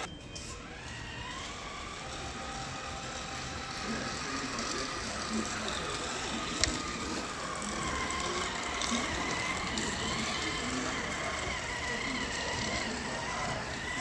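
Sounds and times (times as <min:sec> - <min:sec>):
toy tractor electric motor whine: 0:00.0 - 0:14.0.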